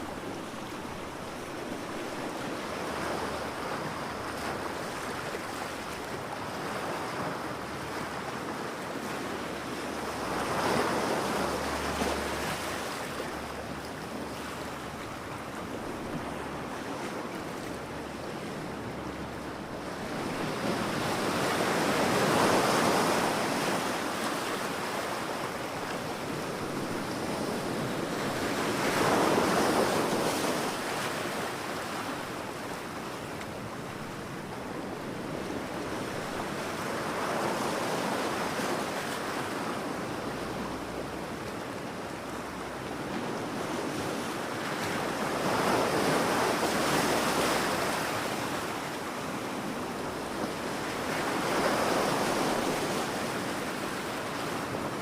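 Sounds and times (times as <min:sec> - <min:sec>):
ocean waves breaking: 0:00.0 - 0:55.0
wind: 0:00.0 - 0:55.0.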